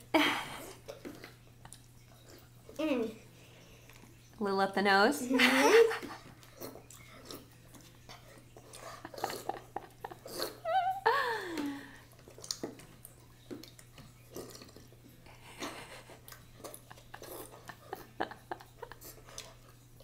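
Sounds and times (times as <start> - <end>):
boy slurping water: 0.0 - 4.1, 5.5 - 19.7.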